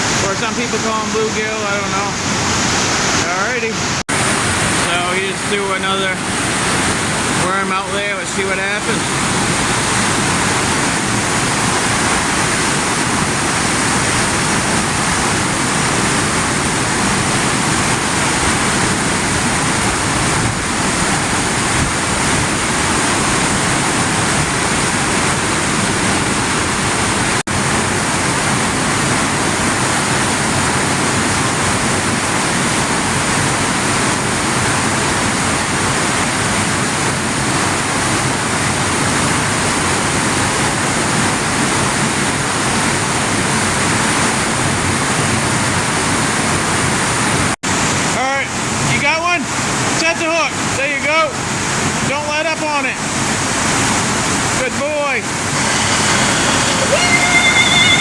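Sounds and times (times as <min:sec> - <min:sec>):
fast-flowing river water: 0:00.0 - 0:58.0.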